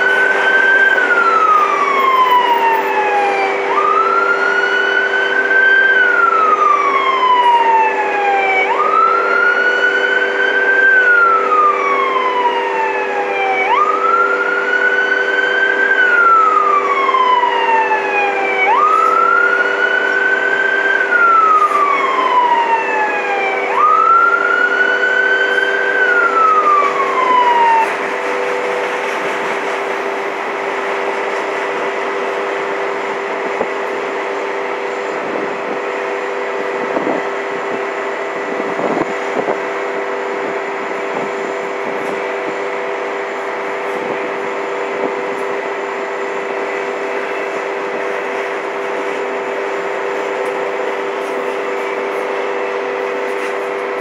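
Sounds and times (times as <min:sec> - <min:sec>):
freight train rumbling: 0:00.0 - 0:54.0
siren wailing: 0:00.0 - 0:54.0.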